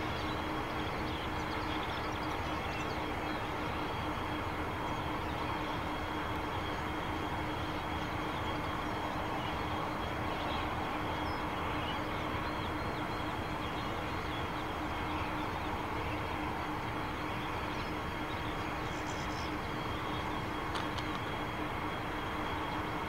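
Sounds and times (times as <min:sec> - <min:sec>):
locomotive engines idling: 0:00.0 - 0:23.0.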